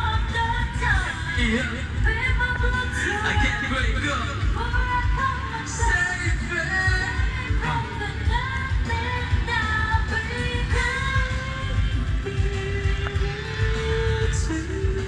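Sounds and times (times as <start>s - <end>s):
pop-rock song over speaker: 0.0s - 15.0s.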